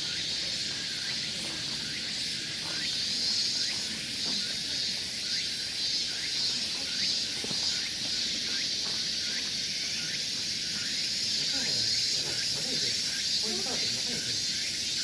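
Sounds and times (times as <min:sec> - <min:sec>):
insects droning in chorus: 0:00.0 - 0:15.0.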